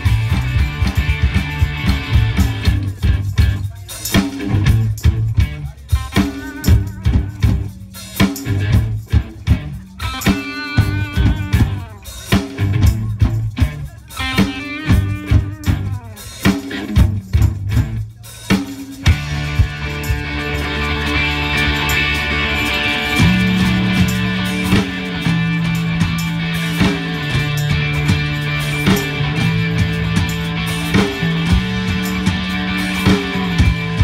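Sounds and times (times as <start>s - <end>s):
drum kit: 0.0s - 34.0s
electric guitars: 0.0s - 34.0s.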